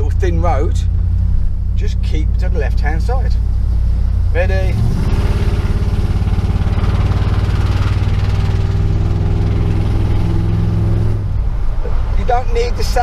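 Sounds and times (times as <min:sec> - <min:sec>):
truck engine pulling under throttle: 0:00.0 - 0:13.0.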